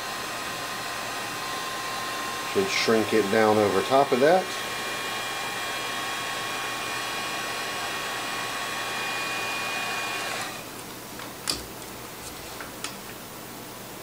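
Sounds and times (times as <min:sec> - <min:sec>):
heat gun blowing with fan whine: 0:00.0 - 0:11.7.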